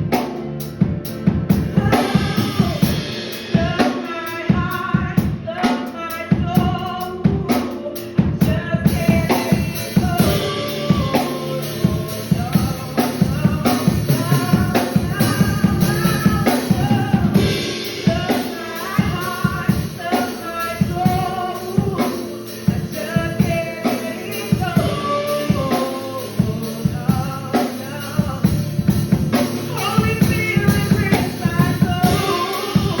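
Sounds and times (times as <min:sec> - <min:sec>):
drum kit playing: 0:00.0 - 0:33.0
person singing: 0:01.5 - 0:33.0.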